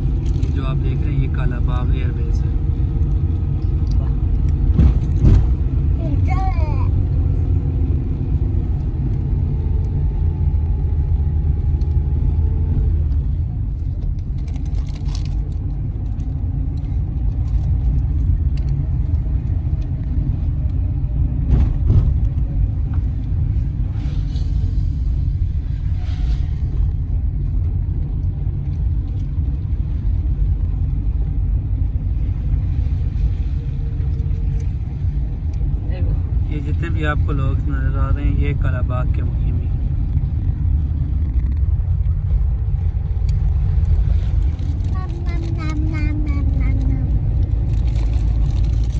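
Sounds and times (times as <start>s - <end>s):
car driving on road: 0.0s - 48.9s.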